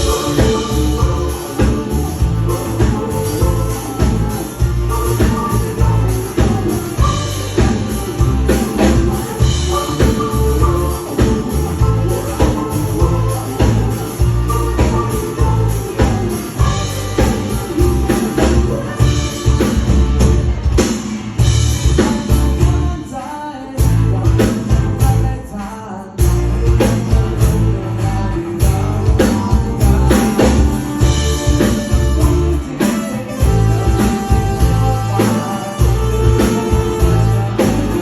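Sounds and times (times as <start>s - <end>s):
person singing: 0.0s - 21.0s, 21.7s - 38.0s
live rock band playing: 0.0s - 38.0s.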